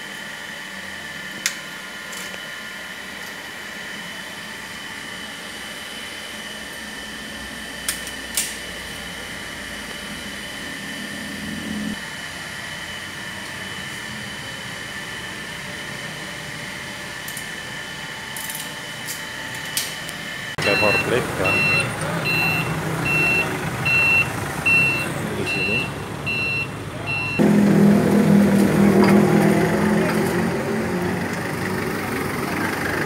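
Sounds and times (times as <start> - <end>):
machine-room drone: 0.0 - 33.0.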